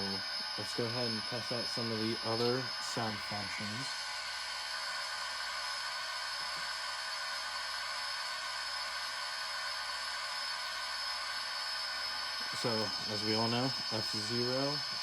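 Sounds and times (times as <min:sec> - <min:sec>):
steam dynamo hiss with whine: 0:00.0 - 0:15.0.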